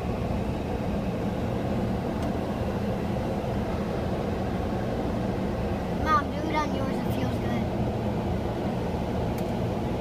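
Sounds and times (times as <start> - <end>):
car wash rumble inside car: 0.0 - 10.0.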